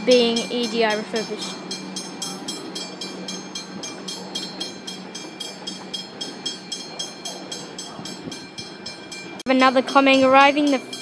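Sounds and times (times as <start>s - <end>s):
electric train hum and rumble: 0.0s - 11.0s.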